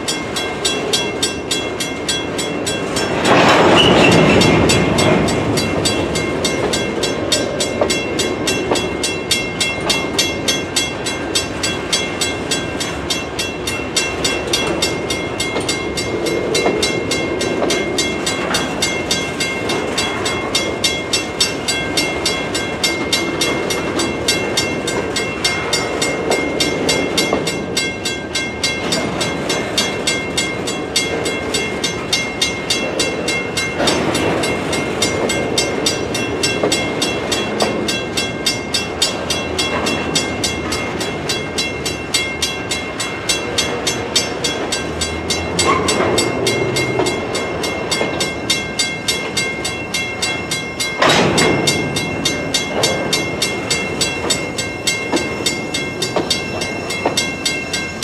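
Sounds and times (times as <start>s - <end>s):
crossing bell ringing: 0.0s - 58.0s
train wheels clacking on rails: 0.0s - 58.0s.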